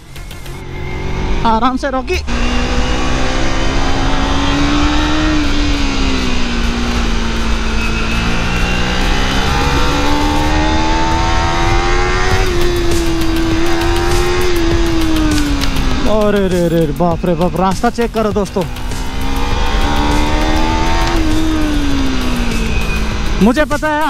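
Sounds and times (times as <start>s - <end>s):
low wind rumble: 0.0s - 23.4s
motorcycle engine running: 0.0s - 24.0s.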